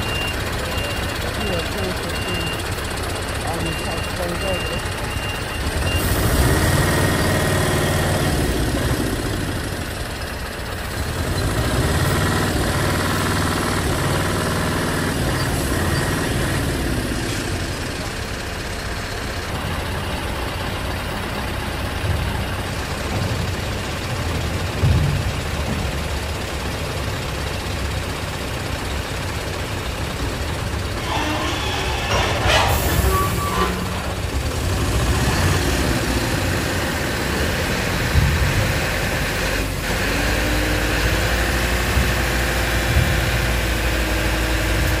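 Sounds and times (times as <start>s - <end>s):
diesel truck engine at low revs: 0.0s - 45.0s.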